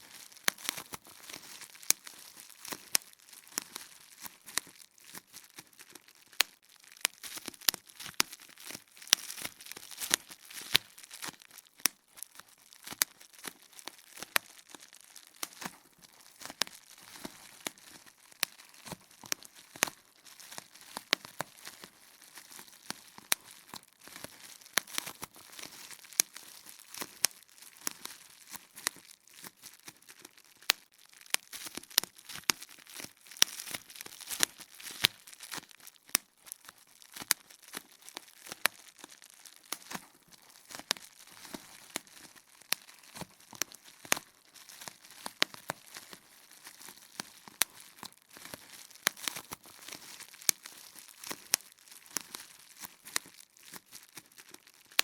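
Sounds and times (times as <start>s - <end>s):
bubble wrap popping: 0.0s - 55.0s
plastic sheet crinkling: 0.0s - 55.0s.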